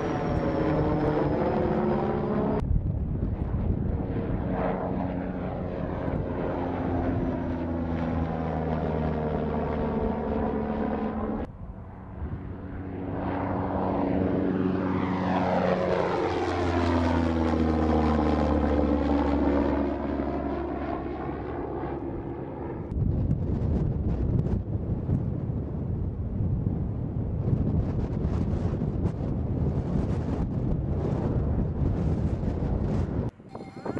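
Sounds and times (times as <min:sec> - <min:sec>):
propeller drone droning overhead: 0:00.0 - 0:33.9.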